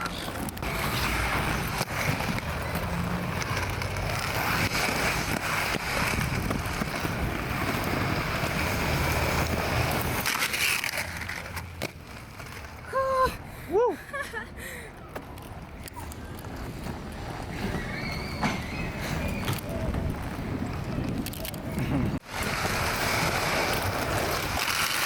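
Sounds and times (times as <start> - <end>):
skateboard clicks: 0.0 - 12.9, 14.9 - 25.0
skateboard wheels rolling on pavement: 0.0 - 25.0.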